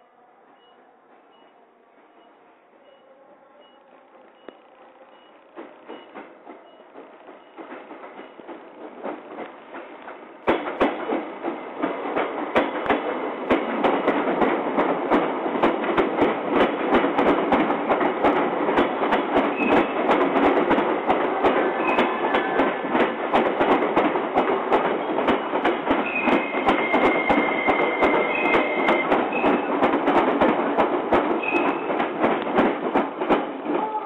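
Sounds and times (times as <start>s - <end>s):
train wheels clattering over rail joints: 5.5s - 34.0s.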